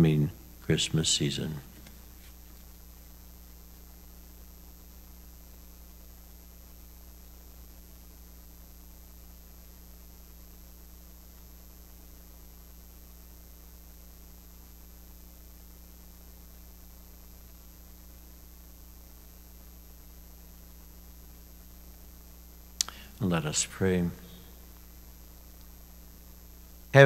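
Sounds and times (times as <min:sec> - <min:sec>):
electrical mains hum: 0:00.0 - 0:27.0
faint hiss: 0:00.0 - 0:27.0.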